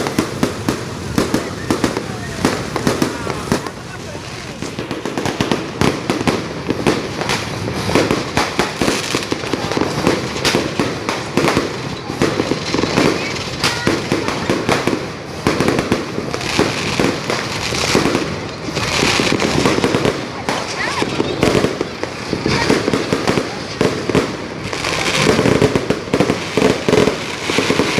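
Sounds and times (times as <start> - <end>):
firecrackers and fireworks banging: 0.0 - 27.9.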